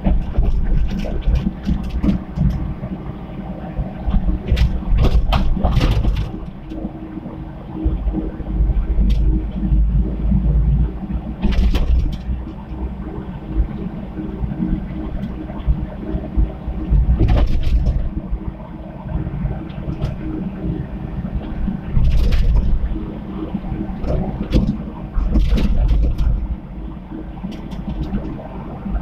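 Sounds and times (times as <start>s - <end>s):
excavator diesel engine rumbling: 0.0s - 29.0s.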